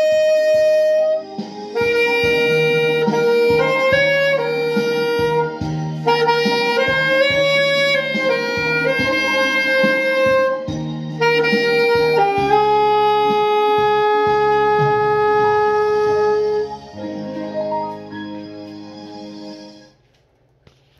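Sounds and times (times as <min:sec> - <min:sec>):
alto saxophone melody: 0:00.0 - 0:20.0
backing track with steady beat: 0:00.0 - 0:20.9.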